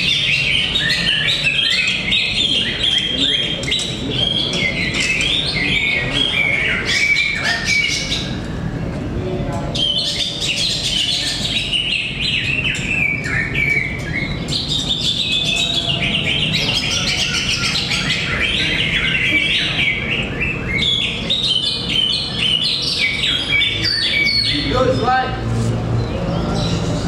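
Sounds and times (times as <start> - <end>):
birds whistling songs: 0.0 - 8.9, 9.6 - 27.0.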